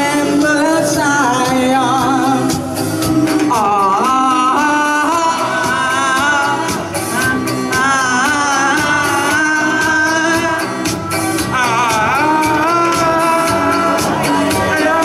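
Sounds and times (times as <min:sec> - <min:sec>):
woman singing into microphone: 0:00.0 - 0:02.6, 0:03.4 - 0:15.0
backing music: 0:00.0 - 0:15.0.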